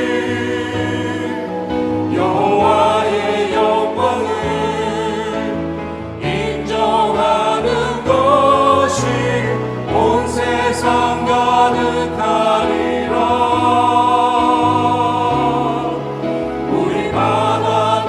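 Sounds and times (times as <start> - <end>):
choir singing in harmony: 0.0 - 18.0.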